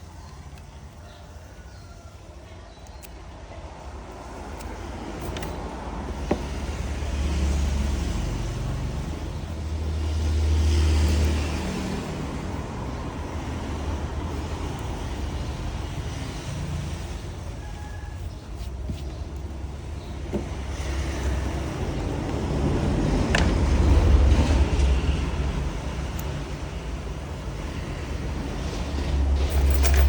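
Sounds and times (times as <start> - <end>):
vehicles passing with engine rumble: 0.0 - 30.0.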